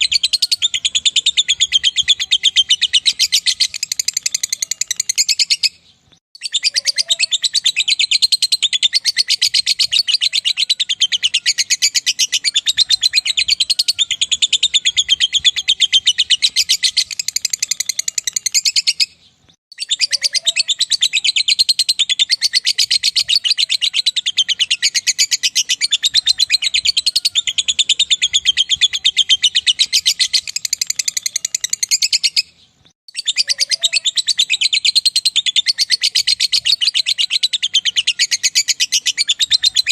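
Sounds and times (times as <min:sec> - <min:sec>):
lovebird chattering: 0:00.0 - 0:05.8, 0:06.4 - 0:19.1, 0:19.8 - 0:32.5, 0:33.1 - 0:39.9.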